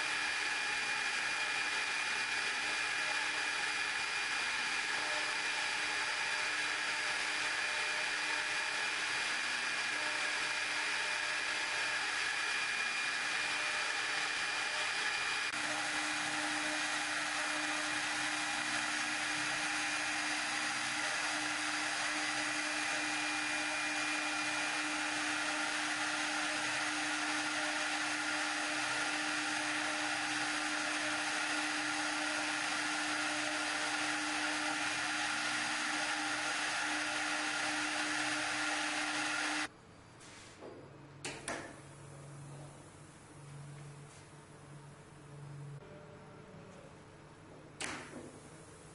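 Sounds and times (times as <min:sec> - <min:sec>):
milling machine spindle whine: 0:00.0 - 0:39.8.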